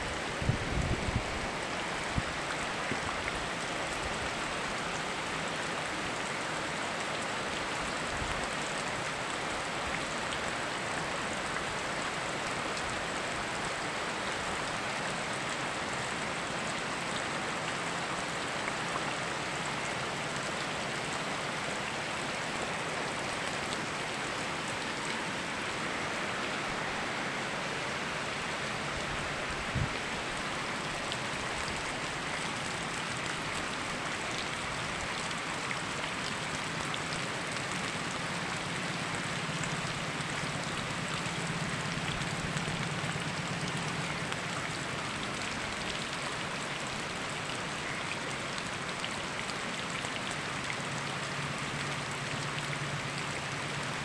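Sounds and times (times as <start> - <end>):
rain falling: 0.0 - 54.0
river flowing: 0.0 - 54.0.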